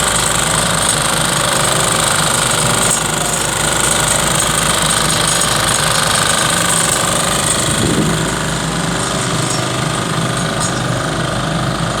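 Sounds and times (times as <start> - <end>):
road roller engine rattling: 0.0 - 12.0.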